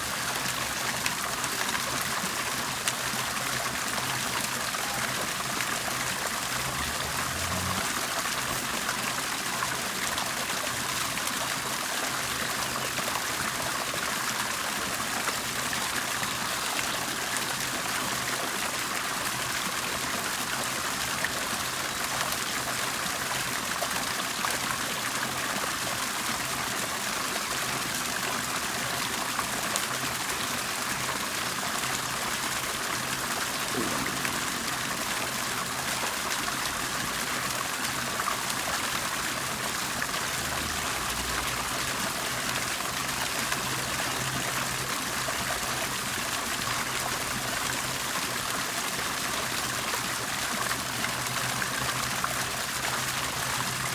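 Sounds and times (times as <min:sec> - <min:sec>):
water bubbling and trickling: 0:00.0 - 0:53.9.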